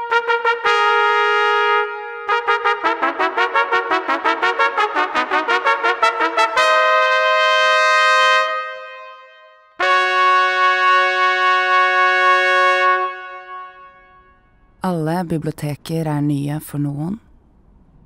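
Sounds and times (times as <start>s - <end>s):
brass fanfare: 0.0s - 14.7s.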